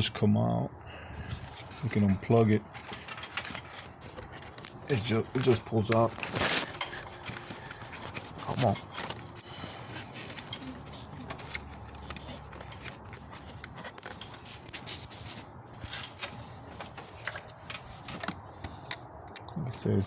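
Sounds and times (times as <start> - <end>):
clicks and plastic rattles: 1.8 - 19.6.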